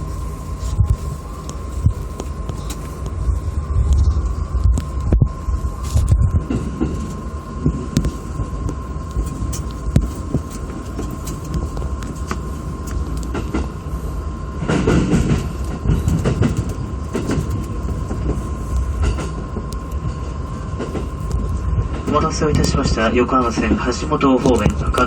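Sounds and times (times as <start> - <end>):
train rumble with whine: 0.0 - 25.0.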